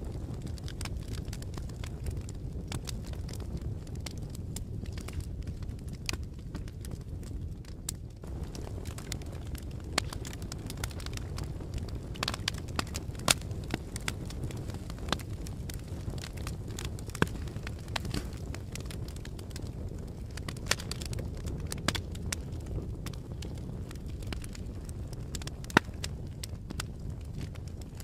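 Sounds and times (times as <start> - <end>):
fire crackling: 0.0 - 28.0.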